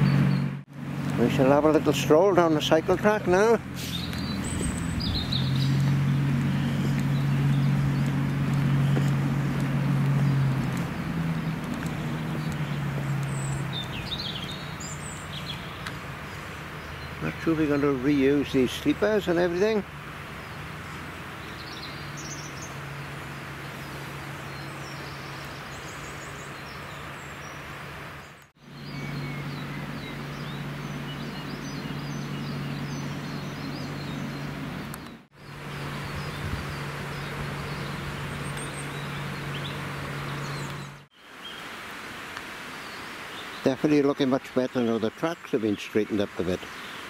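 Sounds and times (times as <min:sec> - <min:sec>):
small birds chirping: 0:00.0 - 0:41.8, 0:42.6 - 0:47.0.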